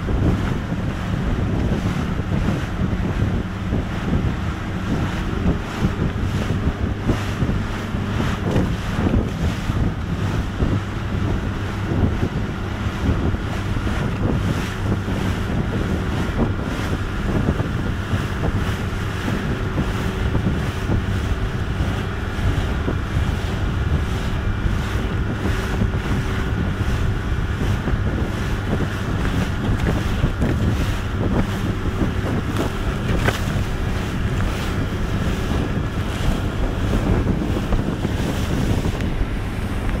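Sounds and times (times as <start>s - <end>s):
hull slapping on waves: 0.0s - 40.0s
outboard engine drone: 0.0s - 40.0s
wind buffeting microphone: 0.0s - 40.0s.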